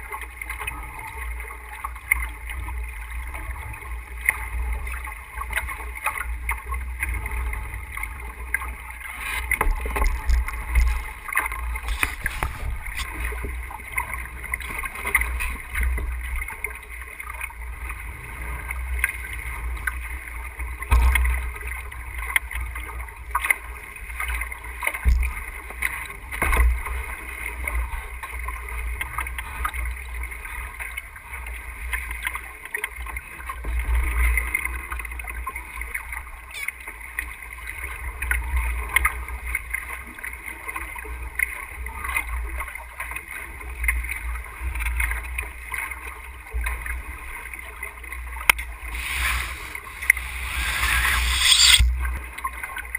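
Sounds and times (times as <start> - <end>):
water rushing along hull: 0.0 - 51.0.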